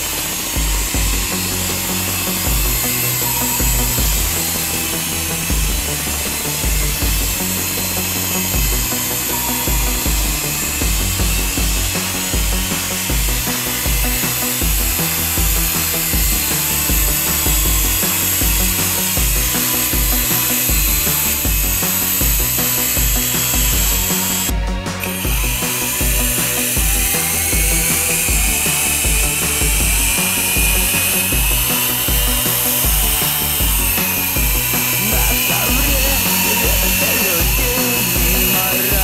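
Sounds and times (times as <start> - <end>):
music with thudding bass beat: 0.0 - 39.0
toy helicopter rotor whine: 0.0 - 39.0.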